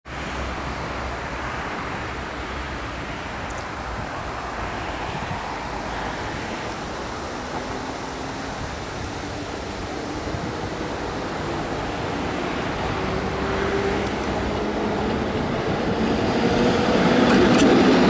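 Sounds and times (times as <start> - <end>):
electric locomotive rumbling: 0.1 - 18.0
wind buffeting microphone: 0.1 - 18.0.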